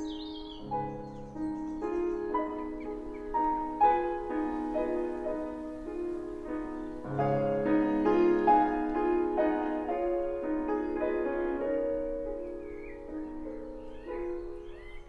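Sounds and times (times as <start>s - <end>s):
solo piano slow classical melody: 0.0s - 15.0s.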